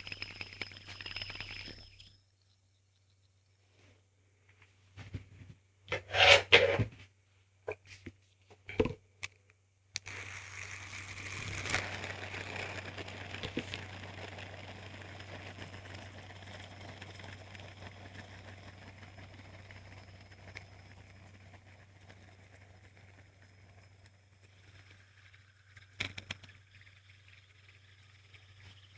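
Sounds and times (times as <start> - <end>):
hand spinner whirring: 0.0 - 3.5, 5.9 - 6.8, 10.0 - 28.9.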